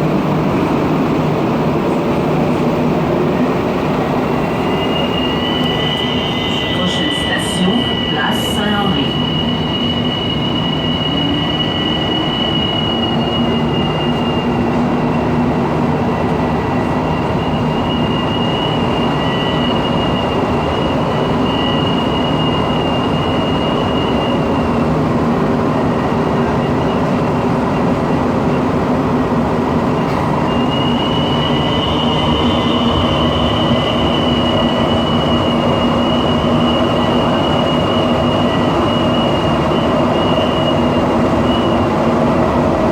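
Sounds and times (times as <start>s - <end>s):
metro train rumbling: 0.0s - 42.9s.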